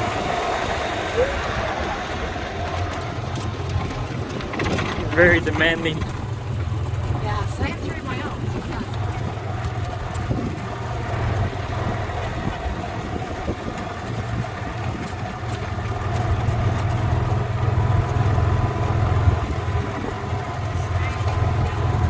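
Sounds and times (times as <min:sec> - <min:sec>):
golf cart humming: 0:00.0 - 0:22.0.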